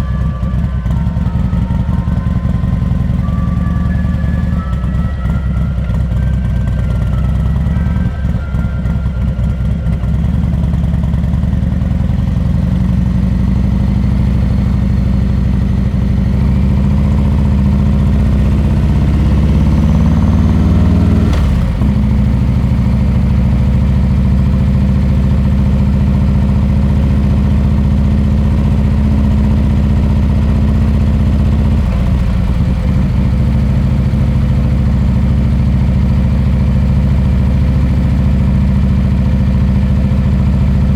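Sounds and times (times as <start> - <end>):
v-twin motorcycle engine: 0.0 - 40.9.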